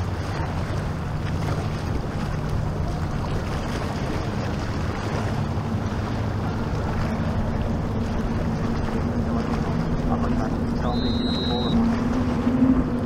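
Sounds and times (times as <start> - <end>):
outboard motor running: 0.0 - 13.0
waves washing: 0.0 - 13.0.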